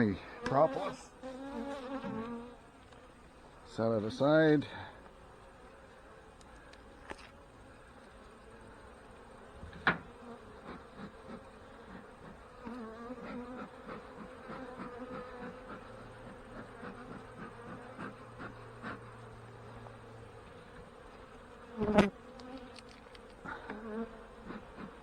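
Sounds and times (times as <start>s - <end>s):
honey bees buzzing: 0.0s - 25.0s.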